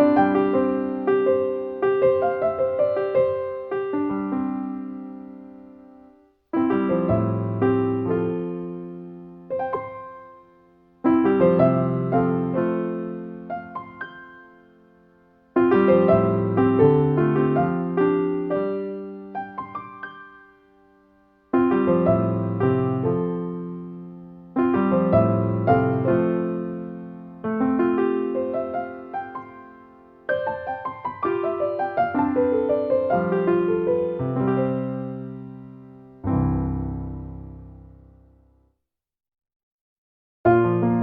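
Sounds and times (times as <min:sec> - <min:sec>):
slow solo piano: 0:00.0 - 0:38.7, 0:40.5 - 0:41.0.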